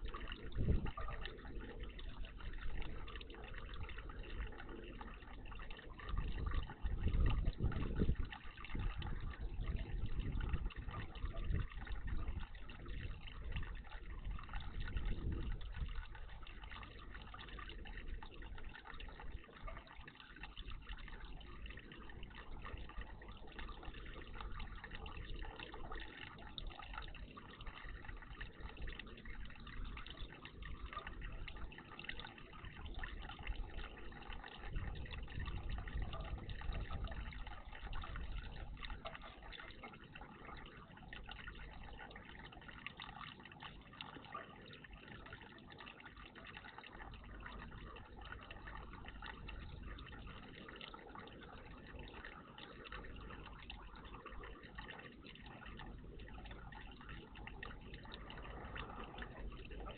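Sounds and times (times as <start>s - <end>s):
water splashing in bird bath: 0.0s - 59.9s.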